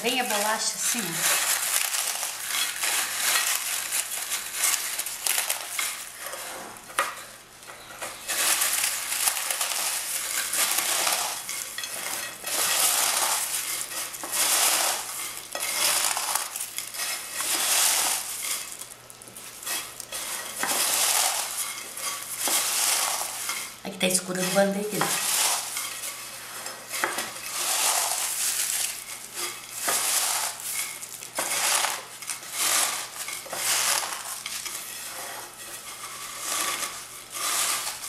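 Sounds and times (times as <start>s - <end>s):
biscuits crunching in a glass bowl: 0.0s - 38.0s.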